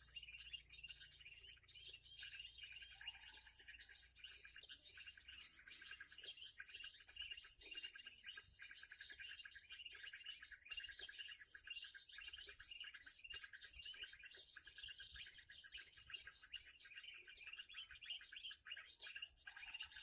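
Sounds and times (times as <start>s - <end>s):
small birds twittering: 0.0s - 20.0s.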